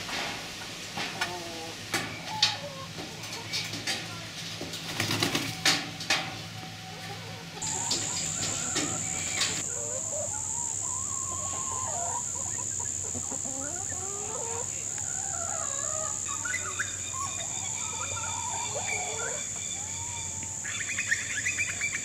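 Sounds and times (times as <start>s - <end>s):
hens clucking softly: 1.0s - 20.5s.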